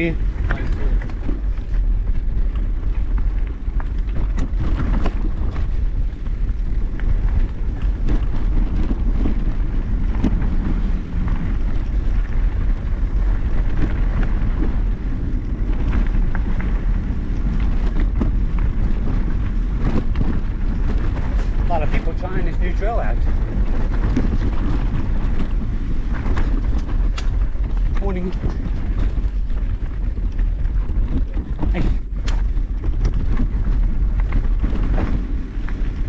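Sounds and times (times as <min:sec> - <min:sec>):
bike rattling clicks and knocks: 0:00.0 - 0:36.0
tyres on dirt trail: 0:00.0 - 0:36.0
wind rumbling on microphone: 0:00.0 - 0:36.0.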